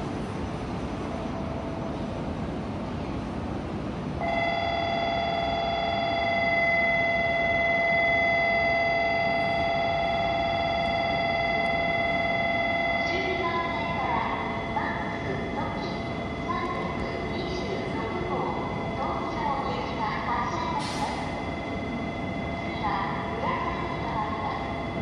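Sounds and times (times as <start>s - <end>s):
station background noise: 0.0s - 25.0s.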